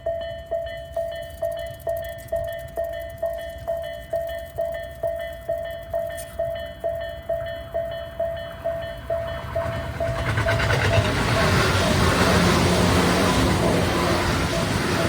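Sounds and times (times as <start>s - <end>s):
level-crossing warning bell: 0.0s - 15.0s
train passing with wheel rattle: 0.0s - 15.0s.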